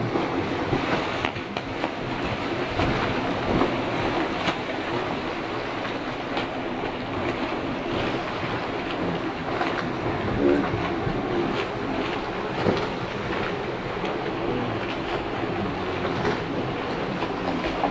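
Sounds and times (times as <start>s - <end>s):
swimmers splashing: 0.0s - 17.9s.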